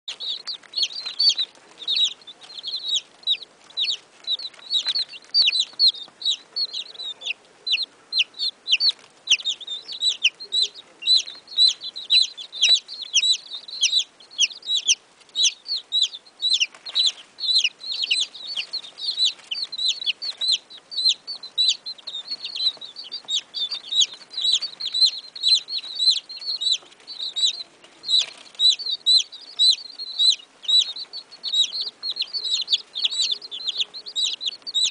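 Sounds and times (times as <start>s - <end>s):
baby chickens peeping: 0.0s - 34.9s.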